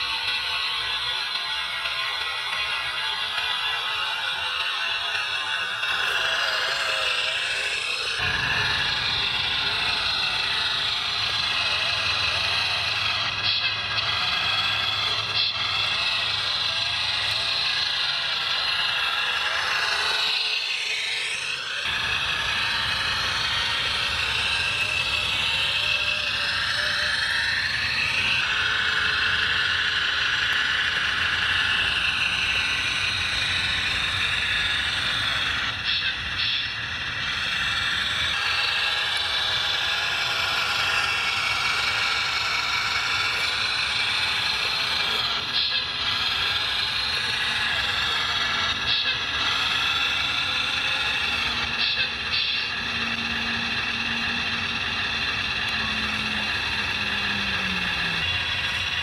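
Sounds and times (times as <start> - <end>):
electric motors and pumps whining: 0.0 - 59.0.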